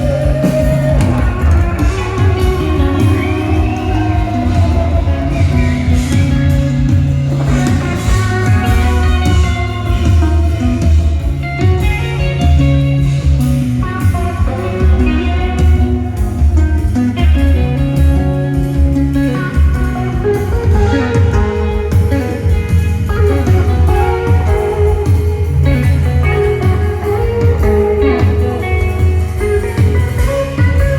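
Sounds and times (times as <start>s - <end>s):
electric guitar solo: 0.0s - 30.9s
loud bass line: 0.0s - 30.9s.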